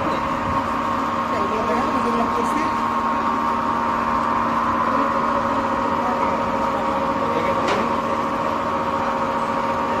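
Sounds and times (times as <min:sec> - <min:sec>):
metal lathe motor hum: 0:00.0 - 0:10.0.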